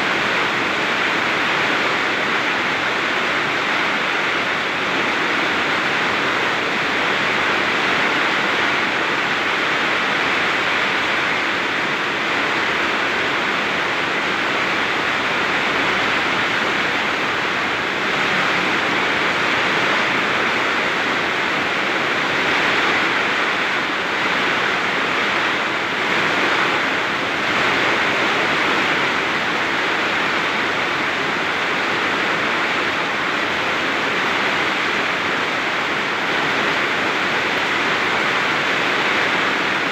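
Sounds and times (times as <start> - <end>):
heavy rain in wind: 0.0 - 39.9.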